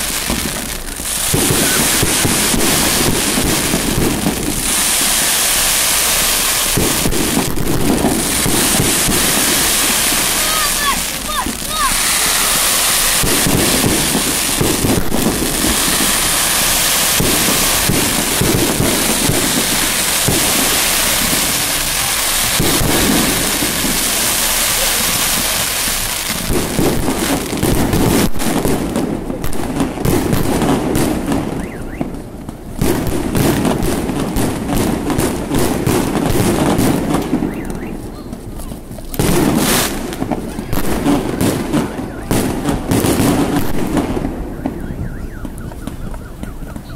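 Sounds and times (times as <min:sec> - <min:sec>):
fireworks bangs and pops: 0:00.0 - 0:46.9
fireworks crackling: 0:00.0 - 0:46.9.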